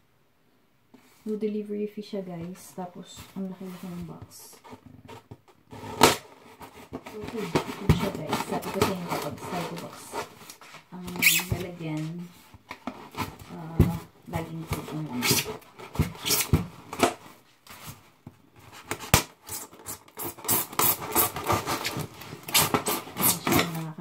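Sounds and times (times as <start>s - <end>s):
styrofoam squeaking and creaking: 3.1s - 18.0s, 18.6s - 24.0s.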